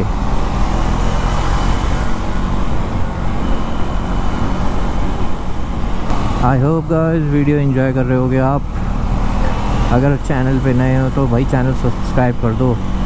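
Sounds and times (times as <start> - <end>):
motorcycle engine accelerating: 0.0 - 12.1
wind and road noise: 0.0 - 13.0.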